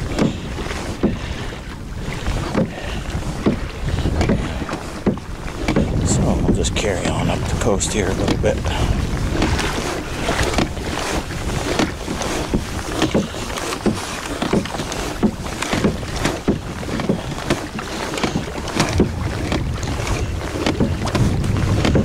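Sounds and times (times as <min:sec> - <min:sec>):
water splashing against kayak hull: 0:00.0 - 0:22.0
wind rumble on microphone: 0:00.0 - 0:22.0.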